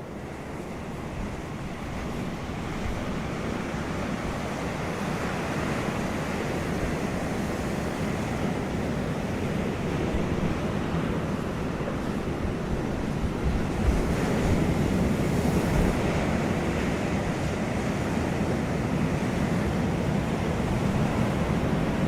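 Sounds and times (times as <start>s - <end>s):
ocean surf rushing: 0.0s - 22.0s.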